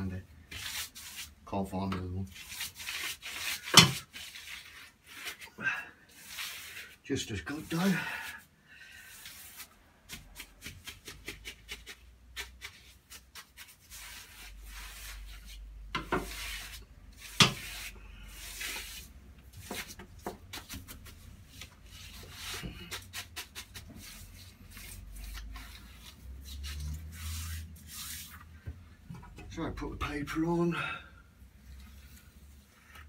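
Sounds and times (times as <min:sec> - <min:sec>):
brush rubbing over wallpaper: 0:00.0 - 0:01.7, 0:02.3 - 0:28.6, 0:31.5 - 0:33.0.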